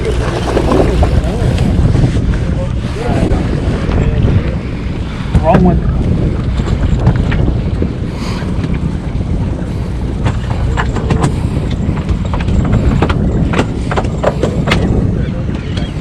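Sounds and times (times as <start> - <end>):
boat engine rumbling: 0.0 - 16.0
wind on microphone: 0.0 - 16.0.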